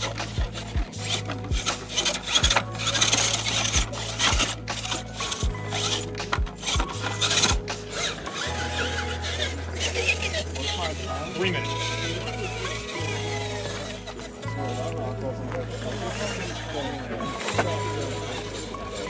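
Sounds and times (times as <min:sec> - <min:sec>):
tires scraping and grinding on rock: 0:00.0 - 0:19.0.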